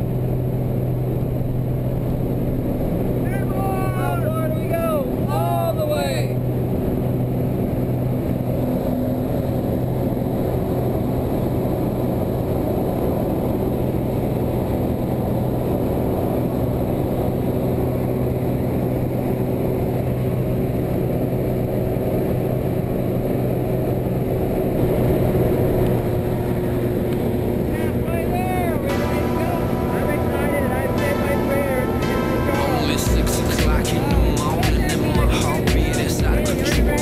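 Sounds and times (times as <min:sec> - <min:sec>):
propeller plane engine droning: 0:00.0 - 0:37.0.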